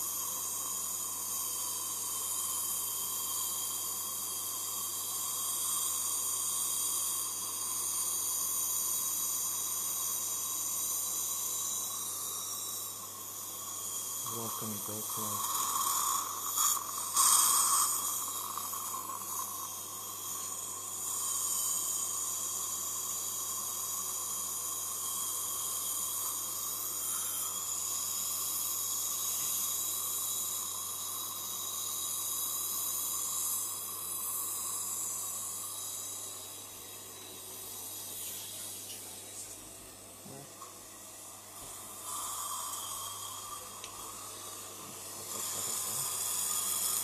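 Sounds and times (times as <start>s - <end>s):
dental suction hissing: 0.0s - 47.0s.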